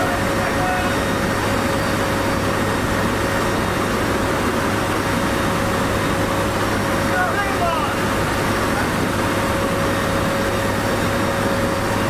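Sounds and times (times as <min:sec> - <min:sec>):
steady whine: 0:00.0 - 0:12.0
turboprop engines droning: 0:00.0 - 0:12.0.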